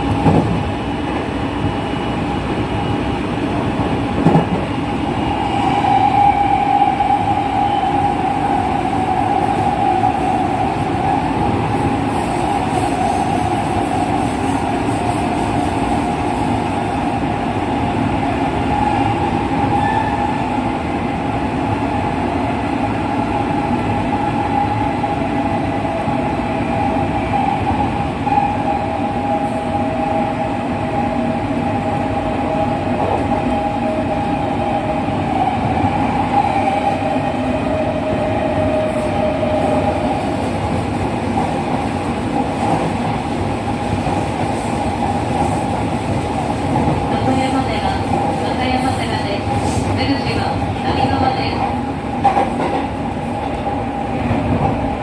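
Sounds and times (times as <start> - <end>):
wheels rumbling on rail: 0.0 - 55.0.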